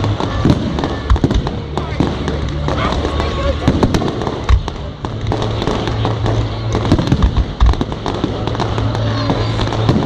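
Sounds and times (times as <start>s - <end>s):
fireworks crackling and bangs: 0.0s - 10.0s.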